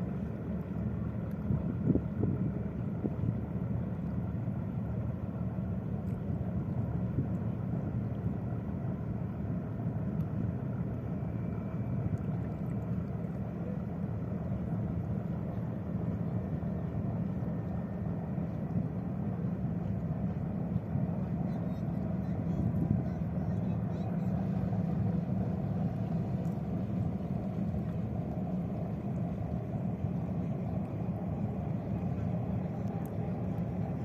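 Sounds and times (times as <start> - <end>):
ship engines rumbling: 0.0 - 34.0.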